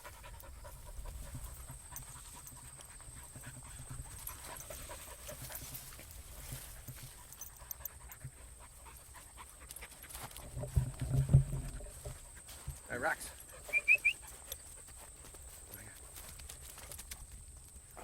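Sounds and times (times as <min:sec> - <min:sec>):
dog panting: 0:00.0 - 0:17.4
faint clicks and rustles: 0:00.0 - 0:18.0.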